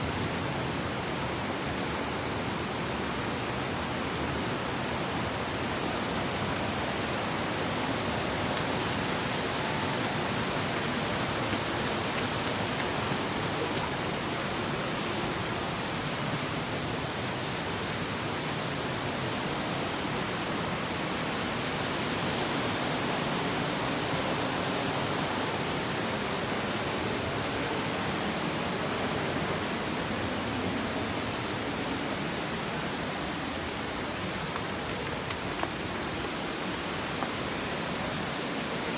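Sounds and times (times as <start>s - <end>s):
water rushing over rocks: 4.6s - 38.9s.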